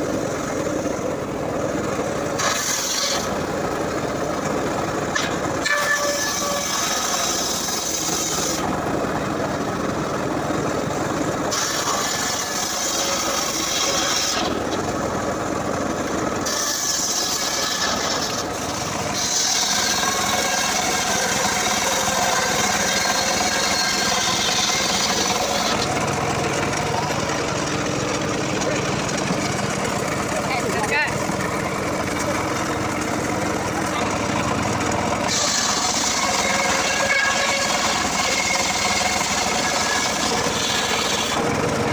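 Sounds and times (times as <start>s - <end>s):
circular saw cutting wood: 0.0s - 41.9s.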